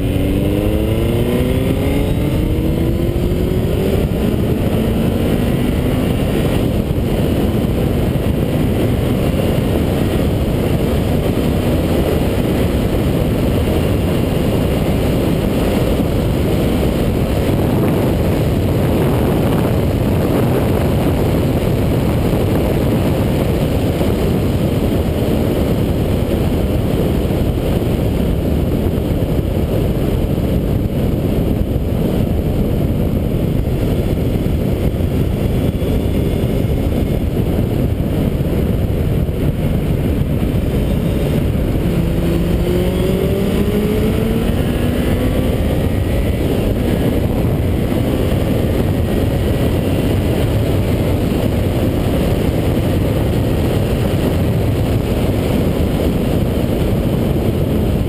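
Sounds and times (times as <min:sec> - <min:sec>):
motorcycle engine at speed: 0:00.0 - 0:58.0.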